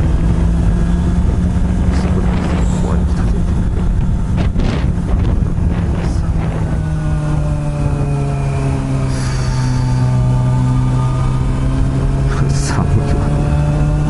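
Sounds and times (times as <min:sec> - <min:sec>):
motorcycle engine: 0:00.0 - 0:14.0
wind rushing over microphone: 0:00.0 - 0:14.0.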